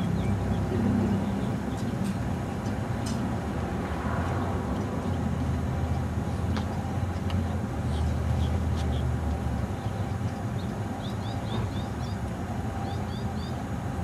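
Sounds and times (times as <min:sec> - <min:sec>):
small birds chirping: 0:00.0 - 0:02.8, 0:04.7 - 0:13.9
low outdoor rumble: 0:00.0 - 0:14.0.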